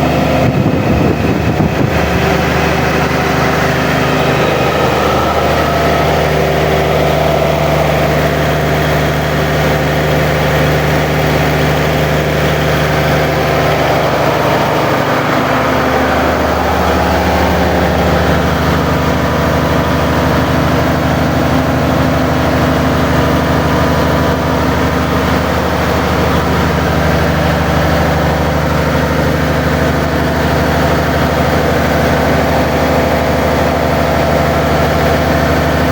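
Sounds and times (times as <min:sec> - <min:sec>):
diesel engine running steadily: 0:00.0 - 0:35.9.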